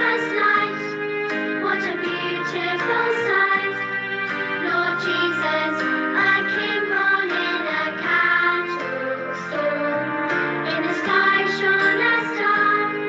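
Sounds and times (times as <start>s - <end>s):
children singing: 0.0s - 13.0s
instrumental accompaniment: 0.0s - 13.0s.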